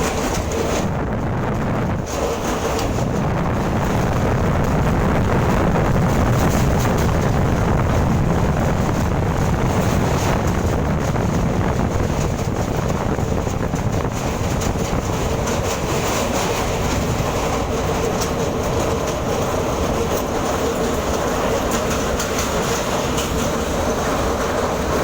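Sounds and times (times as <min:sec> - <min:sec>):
moving train rumble and rattle: 0:00.0 - 0:25.0
wind noise on microphone: 0:00.0 - 0:25.0.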